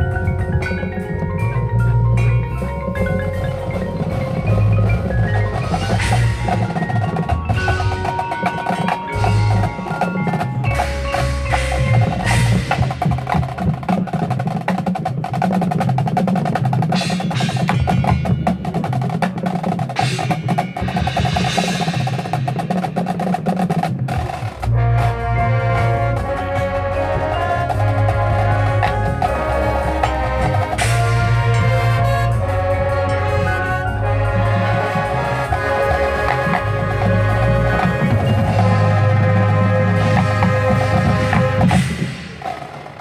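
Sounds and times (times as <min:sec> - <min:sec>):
mallet keyboards playing: 0:00.0 - 0:43.0
marching drums: 0:00.0 - 0:43.0.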